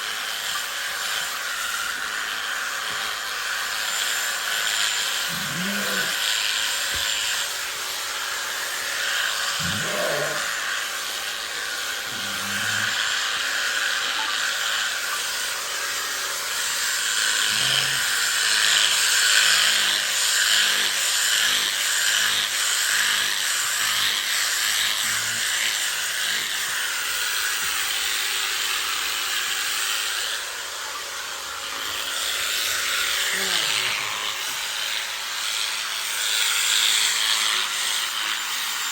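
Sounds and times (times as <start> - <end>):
electric clippers shearing fleece: 0.0 - 38.9.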